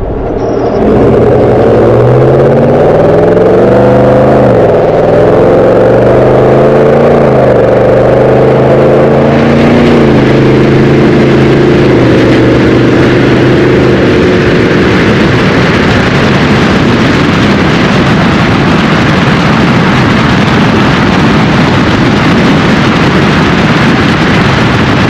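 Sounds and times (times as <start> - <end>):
road noise: 0.0 - 25.0
truck exhaust engine note: 0.0 - 25.0
wind noise: 0.0 - 25.0.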